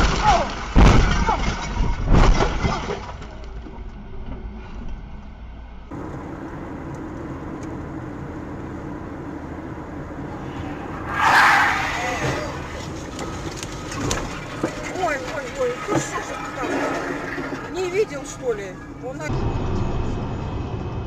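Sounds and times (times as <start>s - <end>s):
vehicle engine and tyre noise: 3.1s - 21.0s.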